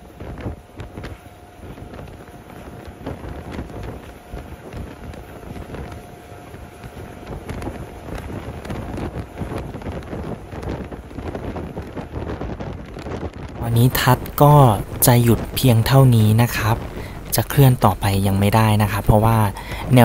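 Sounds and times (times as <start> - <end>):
faint steady whine: 0.0 - 20.0
train running noise: 0.0 - 20.0
wind buffeting microphone: 0.0 - 20.0.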